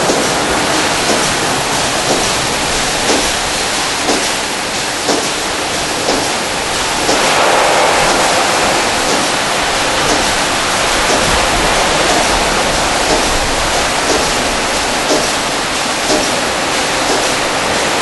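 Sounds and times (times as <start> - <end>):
rotating brushes sweeping: 0.0 - 18.0
water spray hissing: 0.0 - 18.0.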